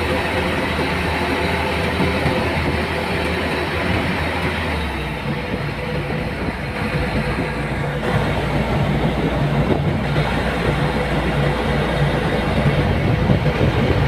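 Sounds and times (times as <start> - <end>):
machine engine running: 0.0 - 14.0.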